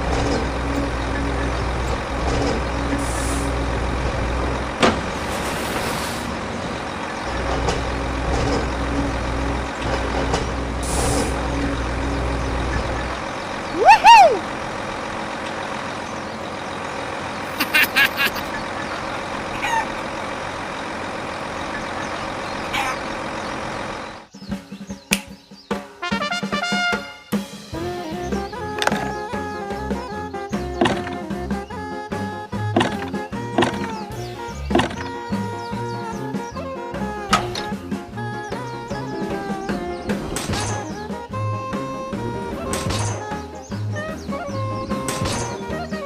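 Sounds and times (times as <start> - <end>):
vehicle engine running: 0.0 - 25.0, 26.6 - 46.0.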